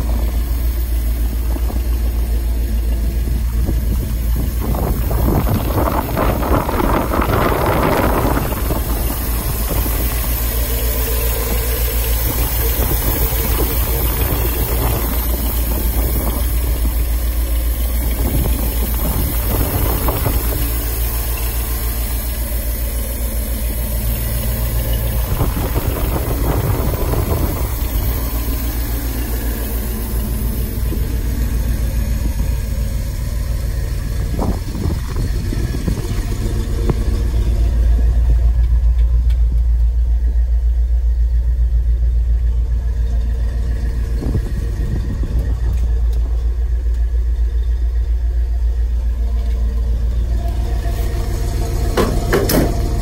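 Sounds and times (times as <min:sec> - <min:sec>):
truck engine idling: 0:00.0 - 0:53.0.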